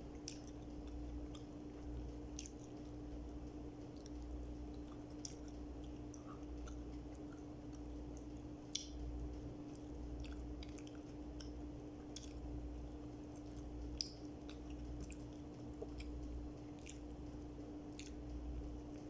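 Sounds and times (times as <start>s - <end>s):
person chewing food: 0.0s - 19.0s
steady low hum: 0.0s - 19.0s.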